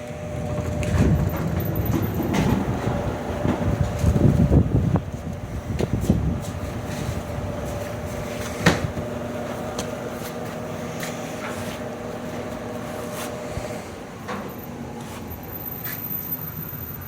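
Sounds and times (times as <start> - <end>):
washer-dryer humming: 0.0 - 15.7.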